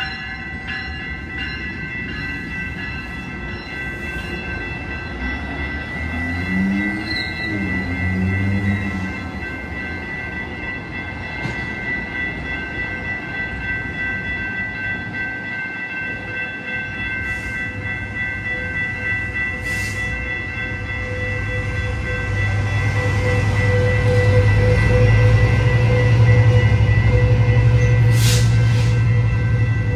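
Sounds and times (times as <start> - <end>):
railroad crossing bell ringing: 0.0 - 29.9
train rumble: 0.0 - 29.9.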